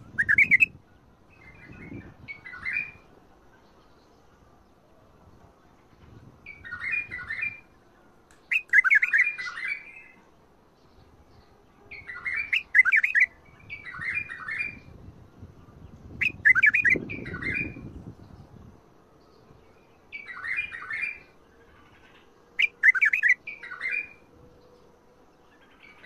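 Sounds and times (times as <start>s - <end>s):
bird singing warbled phrases: 0.0s - 4.5s, 6.4s - 18.7s, 19.6s - 26.0s.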